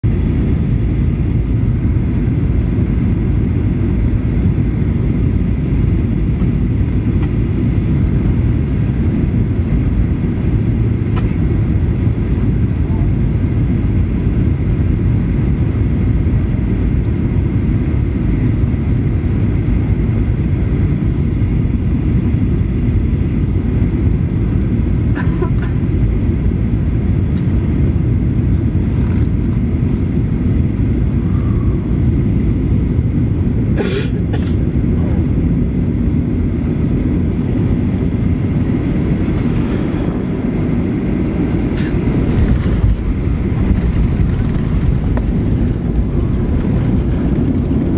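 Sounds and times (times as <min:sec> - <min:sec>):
aircraft cabin engine rumble: 0:00.0 - 0:47.9.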